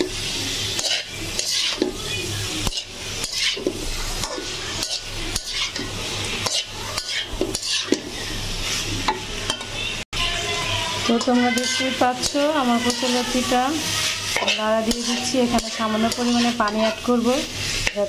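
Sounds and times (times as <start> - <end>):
metal spatula scraping pan: 0.0 - 9.8, 11.0 - 18.0
frying sizzle: 0.0 - 18.0.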